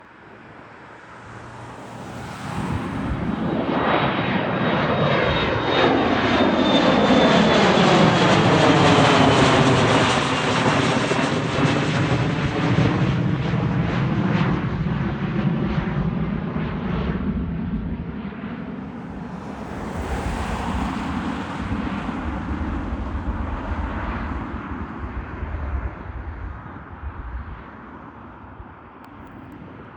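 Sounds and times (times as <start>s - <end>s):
jet airliner roar at takeoff: 0.0s - 29.9s.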